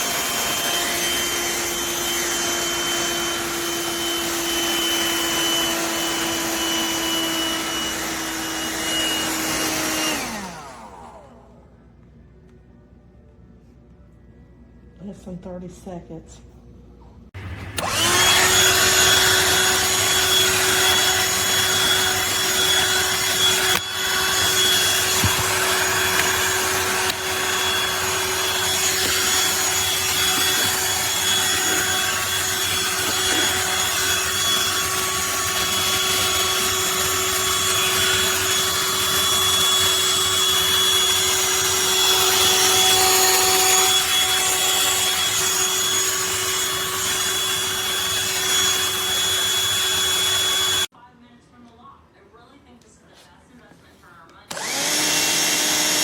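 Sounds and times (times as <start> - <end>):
handheld vacuum running: 0.0 - 11.6, 17.4 - 50.9, 54.5 - 56.0.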